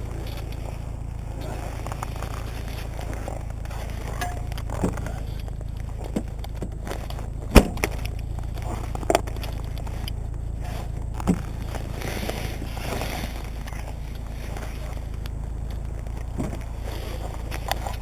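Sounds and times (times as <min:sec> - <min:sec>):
rollator rolling over snow: 0:00.0 - 0:18.0.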